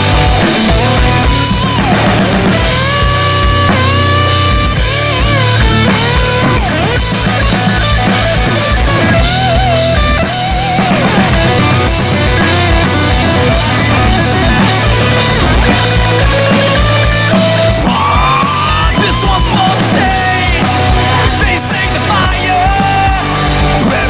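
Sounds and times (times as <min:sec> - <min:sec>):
bass guitar: 0:00.0 - 0:24.0
distorted rhythm guitar: 0:00.0 - 0:24.0
lead electric guitar melody: 0:00.0 - 0:24.0.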